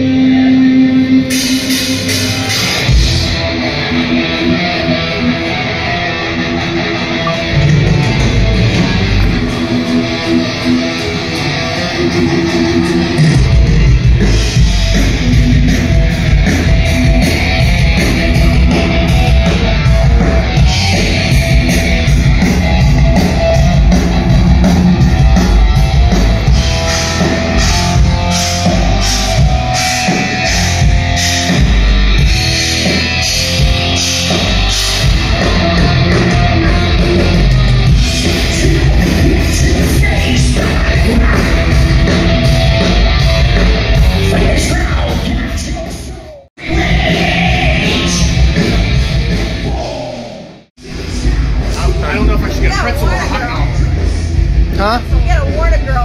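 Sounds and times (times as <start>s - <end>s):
rock music with electric guitar: 0.0s - 56.0s.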